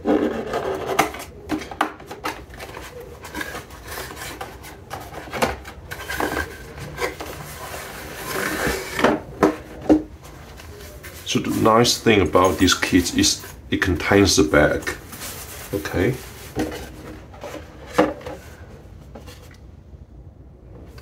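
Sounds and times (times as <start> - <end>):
cardboard rubbing and scraping: 0.0 - 13.6, 14.6 - 18.6.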